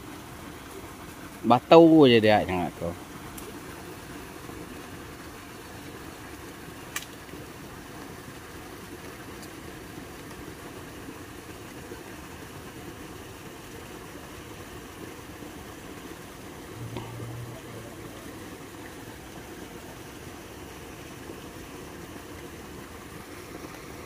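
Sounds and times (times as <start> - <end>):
water spilling into a pond: 0.0 - 24.0.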